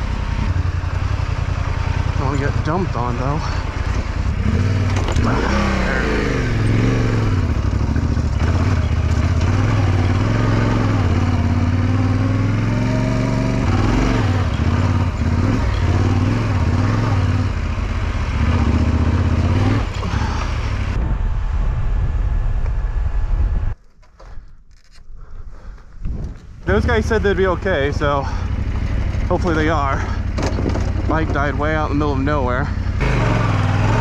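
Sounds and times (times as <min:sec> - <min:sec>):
motorcycle engine revving: 0:00.0 - 0:23.8, 0:26.3 - 0:34.0.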